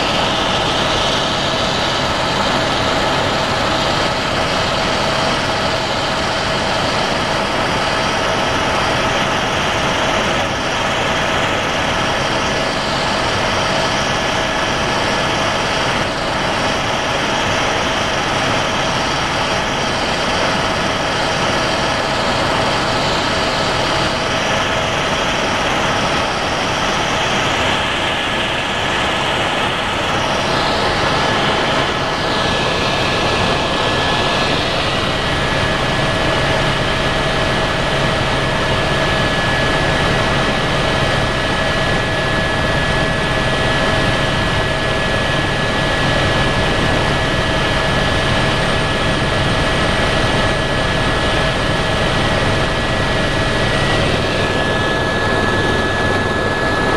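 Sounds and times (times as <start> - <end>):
constant whine: 0.0 - 56.9
helicopter engine and rotor drone: 0.0 - 56.9.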